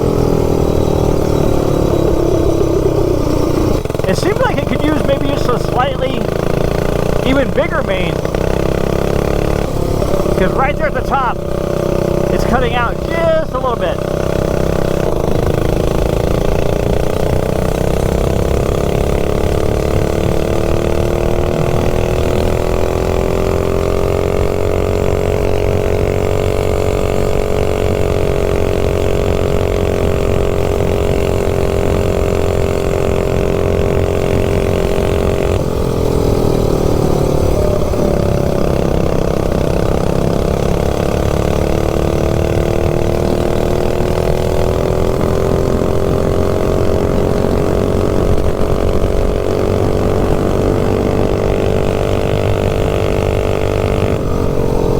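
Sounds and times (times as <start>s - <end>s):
small engine running at high revs: 0.0s - 54.9s.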